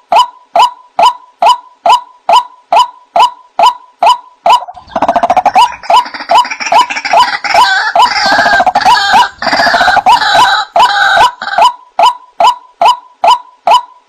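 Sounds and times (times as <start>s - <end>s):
chorus of overlapping bird calls: 0.0s - 14.0s
waterhen calls: 0.1s - 14.0s.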